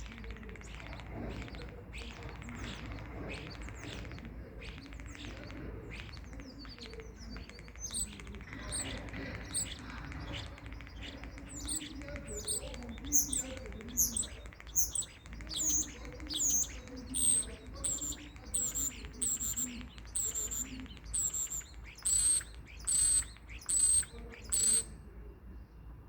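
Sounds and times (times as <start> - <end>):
starling sharp high calls: 0.0 - 25.1.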